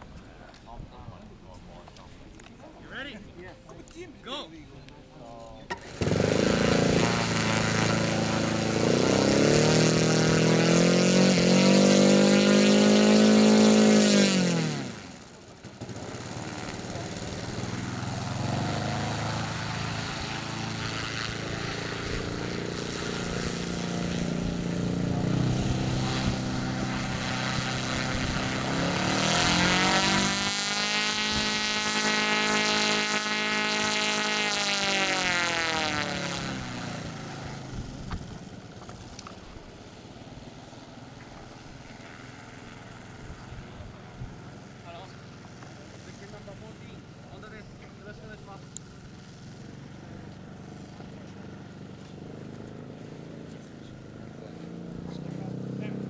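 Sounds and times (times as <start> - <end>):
model plane engine revving: 5.7 - 56.0.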